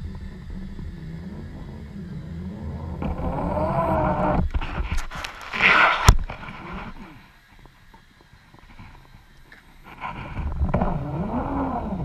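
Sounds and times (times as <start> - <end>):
distant boat engine drone underwater: 0.0 - 12.0.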